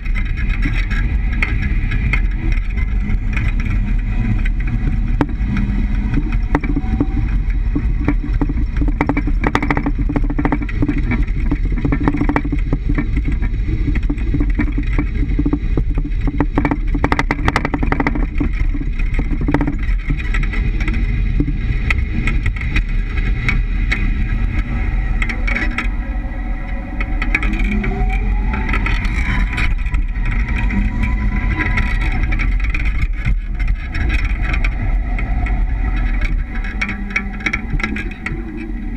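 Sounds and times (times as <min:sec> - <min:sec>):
suspension knocking: 0:00.0 - 0:38.9
van road rumble: 0:00.0 - 0:38.9.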